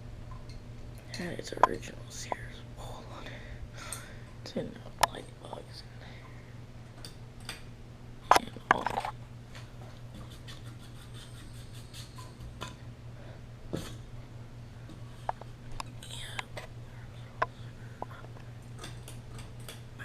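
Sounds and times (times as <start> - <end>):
ceiling fan motor hum: 0.0 - 20.0.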